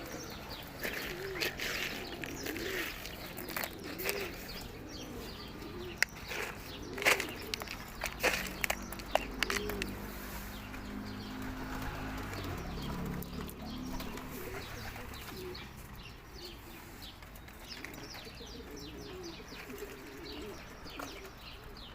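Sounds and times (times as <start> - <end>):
birds chirping rapidly: 0.0 - 21.9
pigeons cooing: 0.0 - 21.9.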